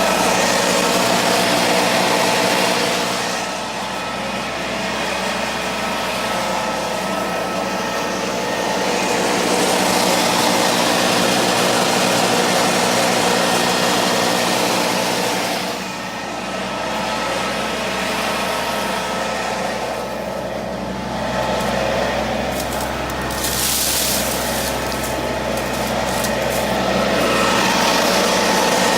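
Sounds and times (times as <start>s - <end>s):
tractor diesel engine: 0.0s - 28.9s
wood chipper running: 0.0s - 28.9s.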